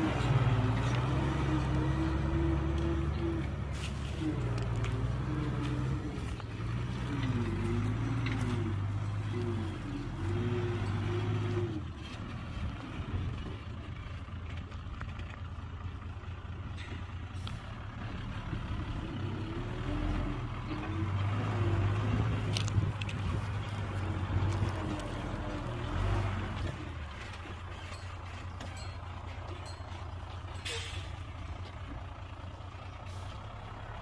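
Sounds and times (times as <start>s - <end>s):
heavy diesel engine working: 0.0s - 34.0s.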